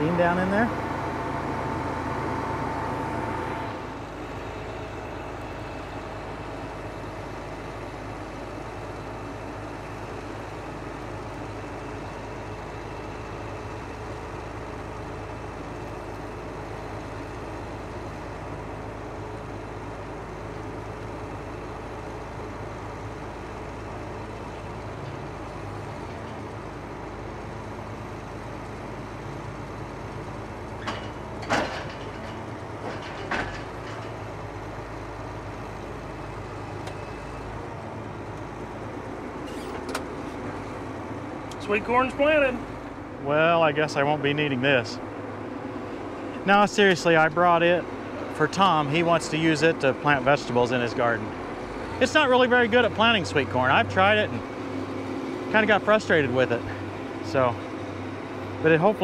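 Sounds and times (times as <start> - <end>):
tractor engine drone: 0.0 - 59.0.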